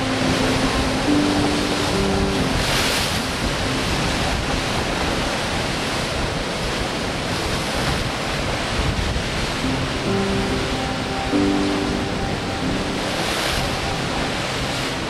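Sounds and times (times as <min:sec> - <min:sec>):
loud wave splash: 0:00.0 - 0:15.0
strong wind: 0:00.0 - 0:15.0
waves crashing on rocks: 0:00.0 - 0:15.0.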